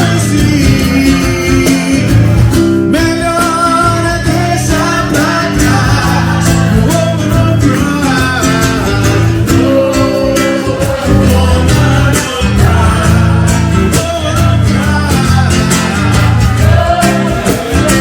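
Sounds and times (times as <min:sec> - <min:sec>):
guitar accompaniment: 0:00.0 - 0:18.0
person singing: 0:00.0 - 0:18.0
steady bass line: 0:00.0 - 0:18.0.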